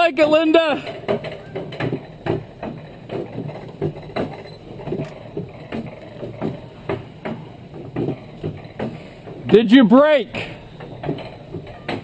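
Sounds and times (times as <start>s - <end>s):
bobsled clacking over metal rails: 0.0s - 12.0s.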